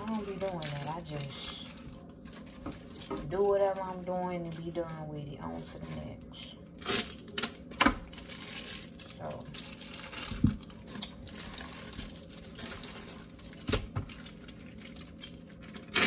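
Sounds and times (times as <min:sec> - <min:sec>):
crinkling and rustling: 0:00.0 - 0:06.1, 0:06.8 - 0:16.0.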